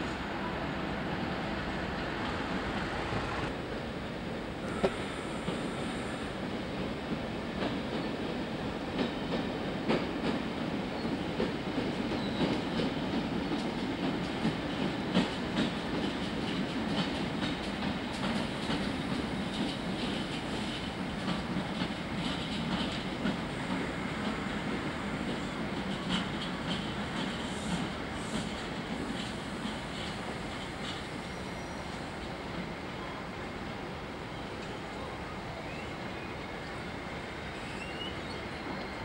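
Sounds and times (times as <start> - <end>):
train coaches rumbling past: 0.0 - 39.0.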